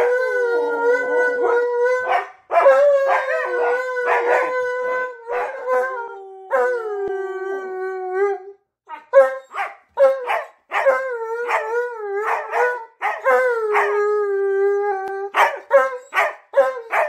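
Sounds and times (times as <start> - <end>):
dogs howling: 0.0 - 8.5, 9.1 - 17.0.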